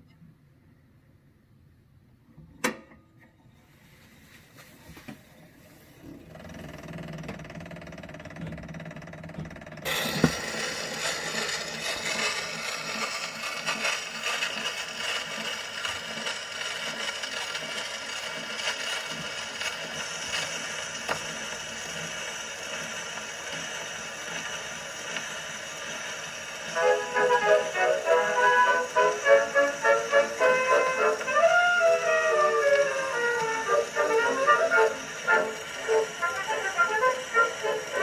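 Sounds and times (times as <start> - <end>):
phonograph motor hum: 4.8 - 38.0.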